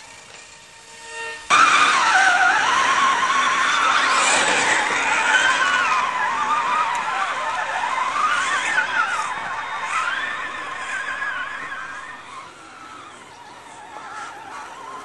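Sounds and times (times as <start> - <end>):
rc truck motor and gear whine: 0.0 - 15.0.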